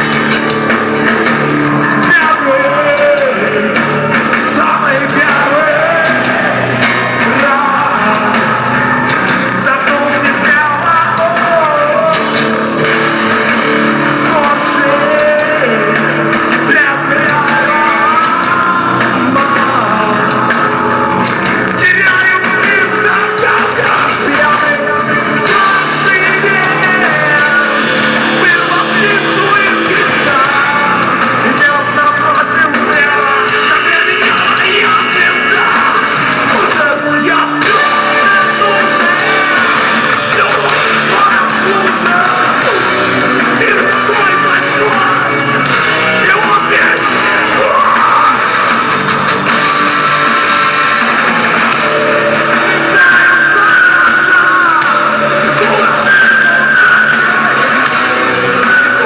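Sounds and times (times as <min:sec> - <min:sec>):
rock music with singing: 0:00.0 - 0:59.0.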